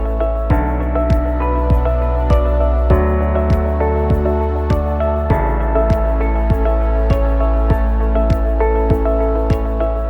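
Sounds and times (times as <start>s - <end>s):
steady low drum beat: 0.0s - 9.8s.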